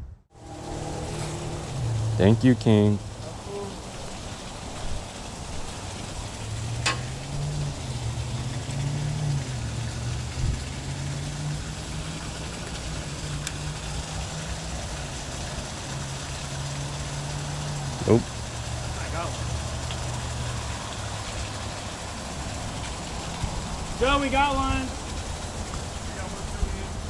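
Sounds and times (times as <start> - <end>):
background hiss: 0.4 - 27.0.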